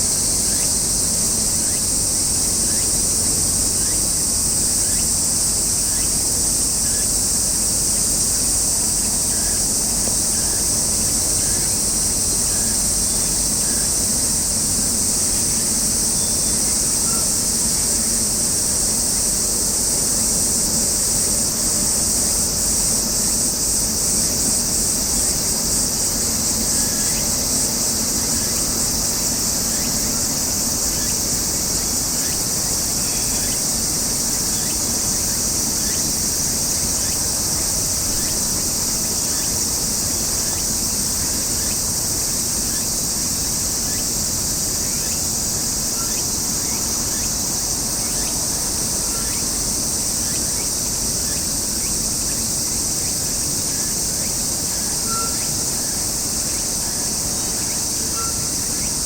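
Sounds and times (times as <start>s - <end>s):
faint chirps: 0.0s - 59.0s
insects chorus: 0.0s - 59.0s.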